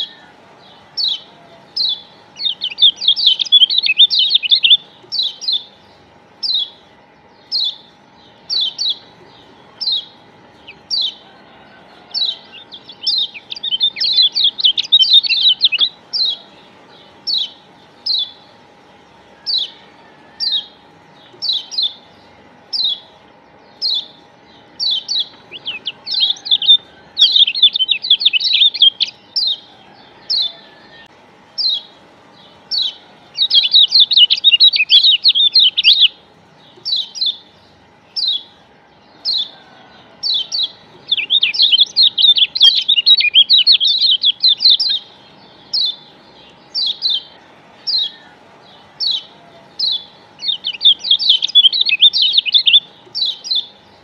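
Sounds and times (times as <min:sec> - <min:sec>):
bird chirping and twittering: 0:00.0 - 0:54.0
faint steady hum: 0:00.0 - 0:54.0.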